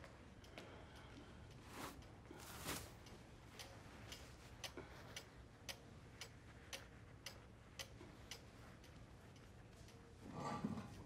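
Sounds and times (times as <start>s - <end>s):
pendulum clock ticking: 0.0s - 10.3s
soft rustle: 0.0s - 11.0s.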